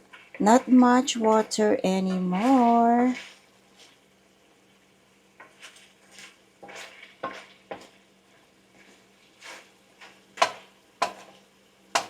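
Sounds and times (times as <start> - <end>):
light sizzle: 0.0 - 12.0.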